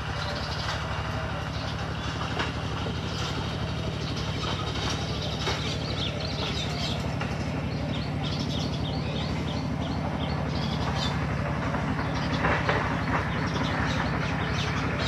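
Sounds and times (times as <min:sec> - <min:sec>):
low fluttering hum: 0:00.0 - 0:15.0
small birds chirping: 0:00.0 - 0:15.0.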